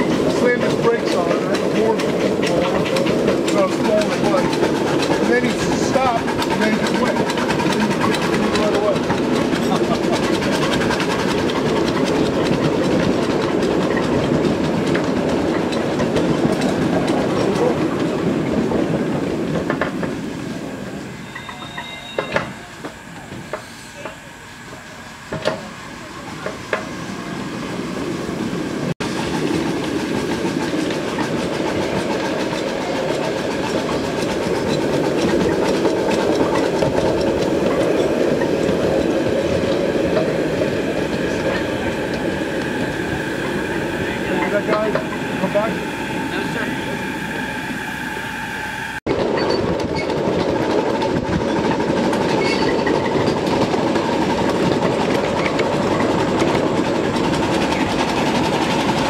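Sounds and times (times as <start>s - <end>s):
train wheels rumbling and clacking: 0.0s - 59.0s.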